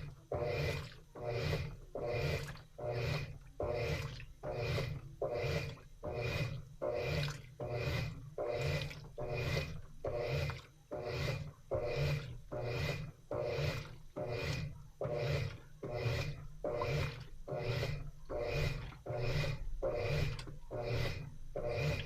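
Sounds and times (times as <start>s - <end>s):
washing machine churning: 0.0s - 22.0s.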